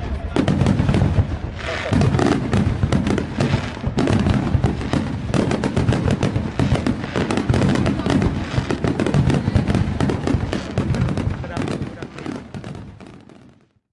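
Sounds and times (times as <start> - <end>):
fireworks barrage: 0.0 - 13.8.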